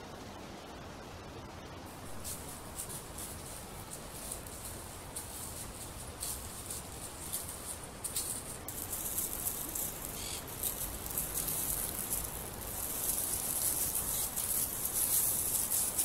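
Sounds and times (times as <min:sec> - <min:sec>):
footsteps crunching dry leaves: 0:01.9 - 0:16.0.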